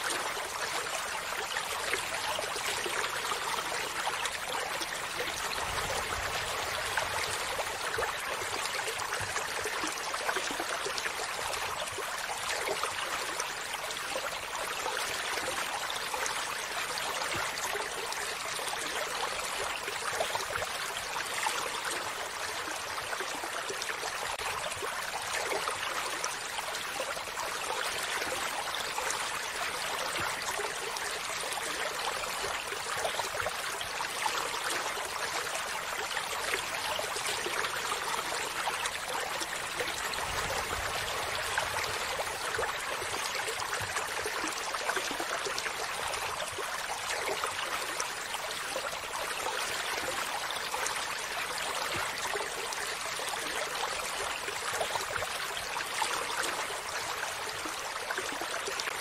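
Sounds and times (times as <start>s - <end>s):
stream trickling over rocks: 0.0s - 59.0s.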